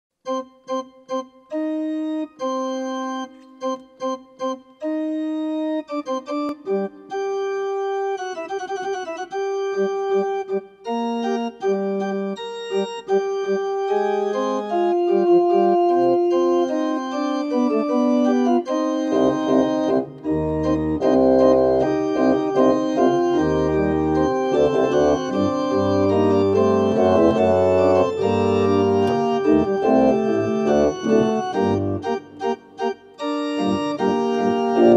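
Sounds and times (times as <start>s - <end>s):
church organ playing: 0.3s - 34.9s.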